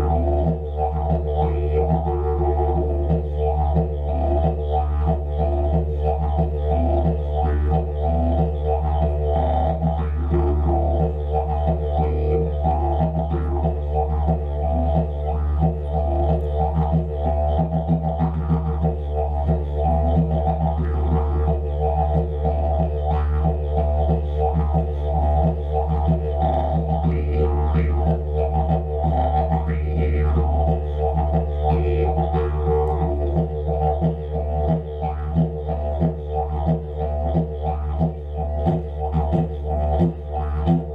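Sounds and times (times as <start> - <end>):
didgeridoo drone: 0.0 - 40.9.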